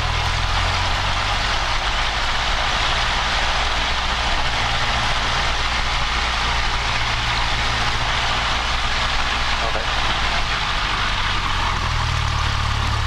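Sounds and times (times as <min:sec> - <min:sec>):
light aircraft engine droning: 0:00.0 - 0:13.0
strong even hiss: 0:00.0 - 0:13.0.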